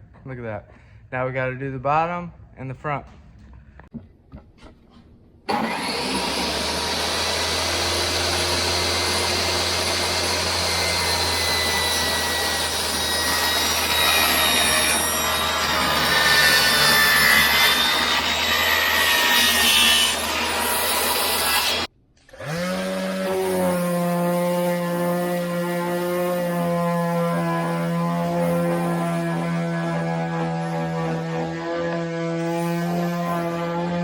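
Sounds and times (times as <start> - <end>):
power saw cutting wood: 5.5 - 34.0.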